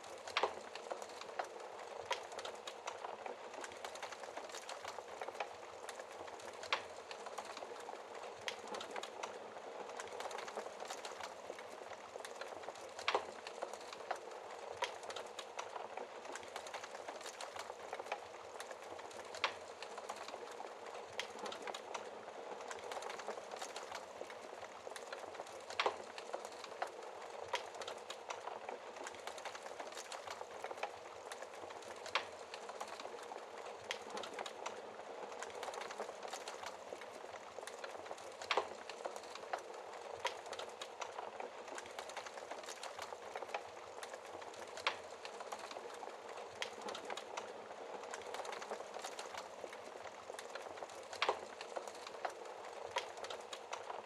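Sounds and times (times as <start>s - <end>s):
falling rain hiss: 0.0s - 54.0s
wood fire crackling and popping: 0.0s - 54.0s.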